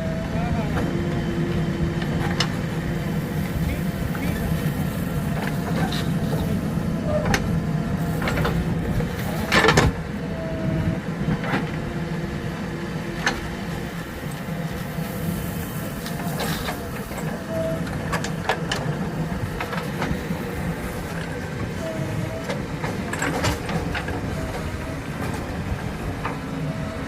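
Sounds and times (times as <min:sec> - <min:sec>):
heavy diesel machinery running: 0:00.0 - 0:27.0.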